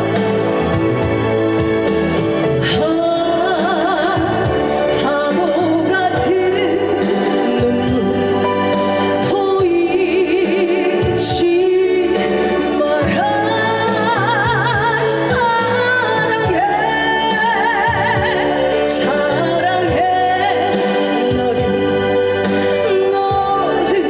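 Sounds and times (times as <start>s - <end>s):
backing track with steady beat: 0.0s - 24.0s
woman singing with vibrato: 2.5s - 24.0s.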